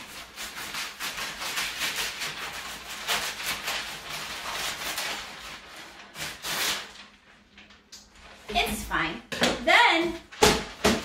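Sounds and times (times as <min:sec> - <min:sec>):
paper rustling: 0:00.0 - 0:09.1.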